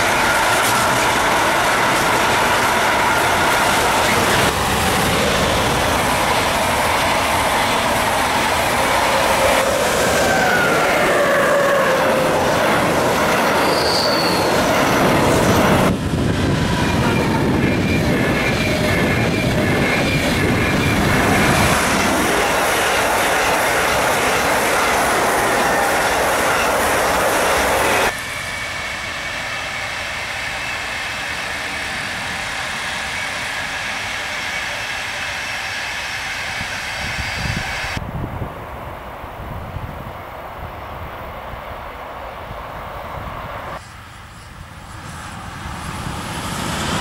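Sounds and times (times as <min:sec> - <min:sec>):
electric trains passing at speed: 0:00.0 - 0:47.0.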